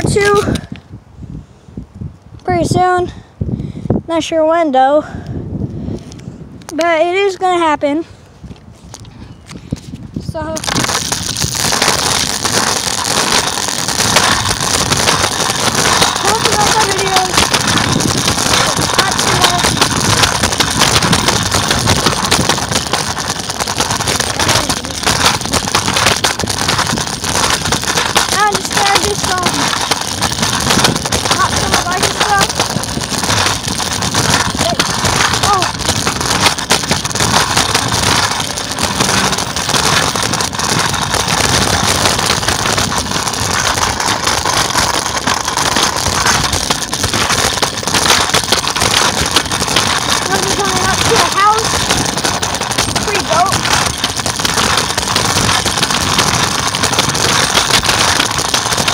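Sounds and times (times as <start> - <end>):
scooter wheels rattling on concrete: 0.0 - 0.8, 6.6 - 58.9.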